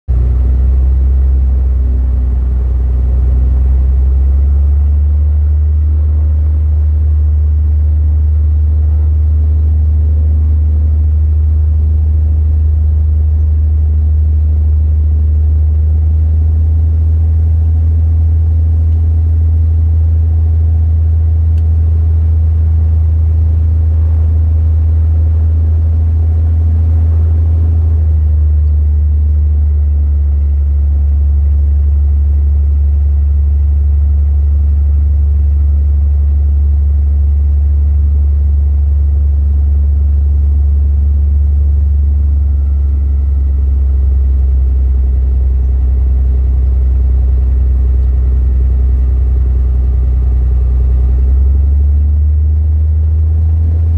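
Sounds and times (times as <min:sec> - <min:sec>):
propeller aircraft engine droning: 0:00.1 - 0:52.1.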